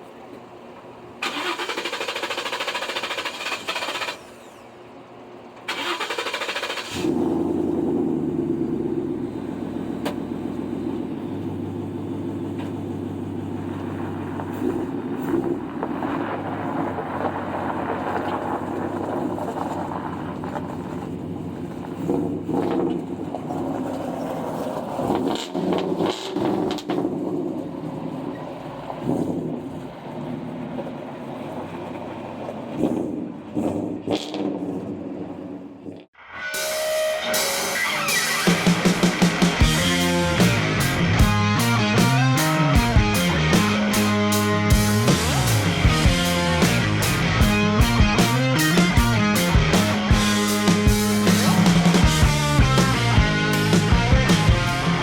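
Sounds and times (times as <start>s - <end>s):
engine cranking and running: 1.1s - 36.2s, 38.3s - 55.0s.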